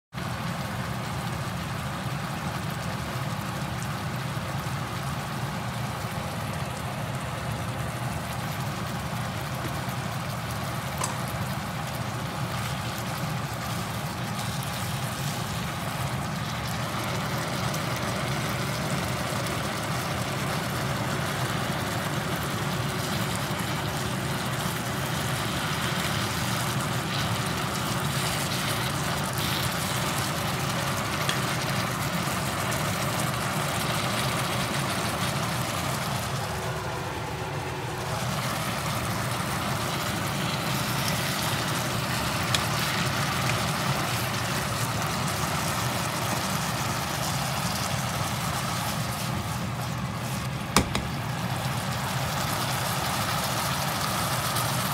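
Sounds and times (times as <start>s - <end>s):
food sizzling in a wok: 0.2s - 54.9s.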